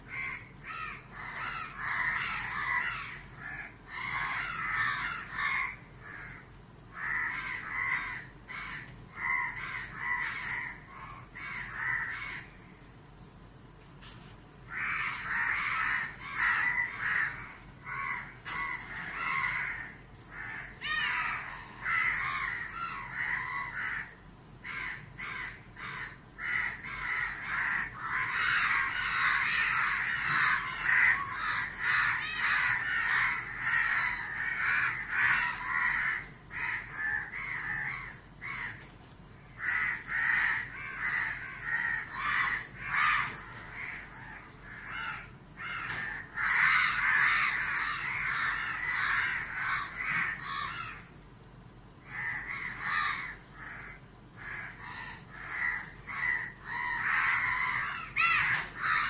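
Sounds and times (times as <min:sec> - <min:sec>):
crows cawing: 0:00.0 - 0:13.0, 0:14.0 - 0:51.2, 0:52.0 - 0:59.0.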